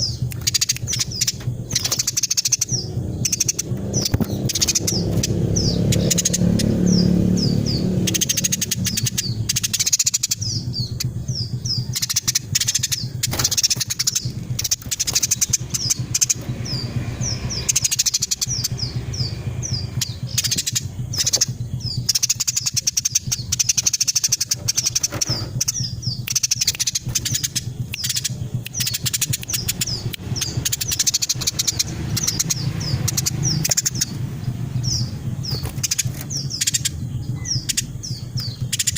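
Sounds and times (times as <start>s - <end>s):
low rumble: 0.0s - 38.9s
sparrow chirping: 0.0s - 38.9s.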